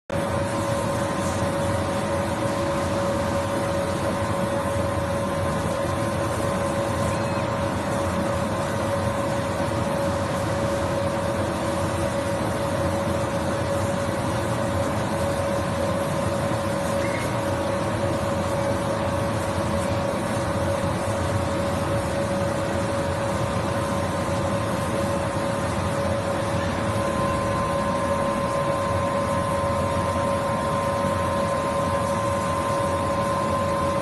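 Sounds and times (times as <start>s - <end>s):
constant machine hum: 0.1s - 34.0s
laser cutter mechanical whir: 0.2s - 34.0s.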